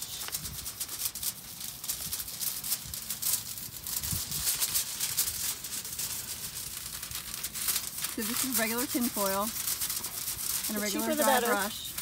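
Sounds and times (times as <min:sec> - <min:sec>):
paintbrush scrubbing over foil: 0:00.0 - 0:12.0.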